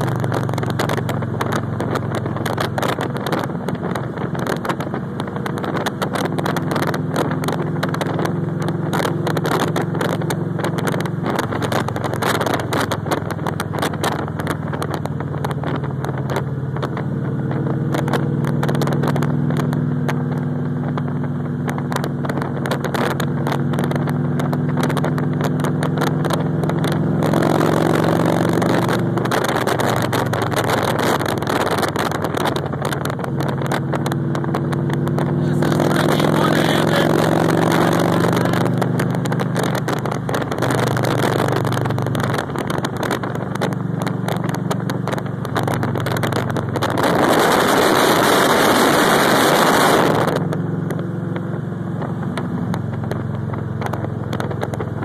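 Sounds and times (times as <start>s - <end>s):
motorcycle engine running: 0.0s - 55.0s
wind buffeting the microphone: 0.0s - 55.0s.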